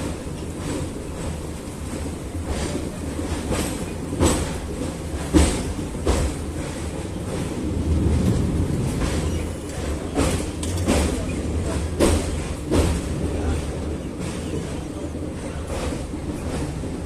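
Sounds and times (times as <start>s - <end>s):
train rumbling: 0.0s - 17.0s
wheels clacking over rail joints: 0.0s - 17.0s.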